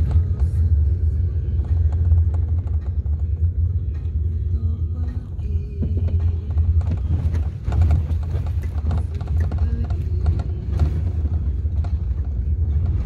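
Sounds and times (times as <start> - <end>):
engine and road drone: 0.0 - 13.0
rattles and knocks: 0.0 - 13.0.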